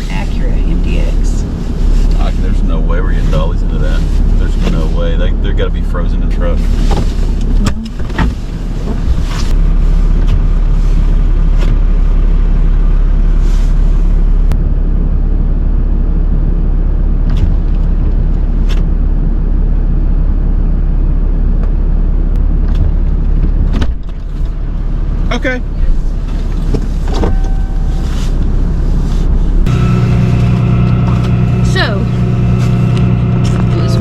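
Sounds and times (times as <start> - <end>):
truck engine droning: 0.0 - 34.0.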